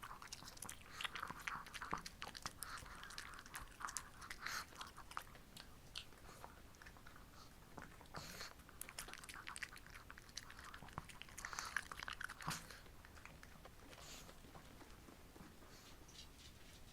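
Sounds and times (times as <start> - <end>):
dog chewing crunchy treat: 0.0 - 16.5.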